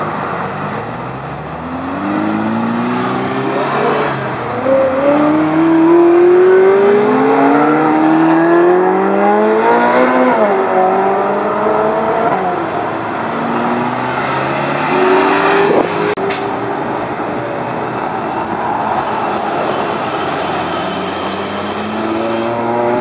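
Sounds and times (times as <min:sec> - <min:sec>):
sports car engines accelerating: 0:00.0 - 0:18.8, 0:21.3 - 0:23.0.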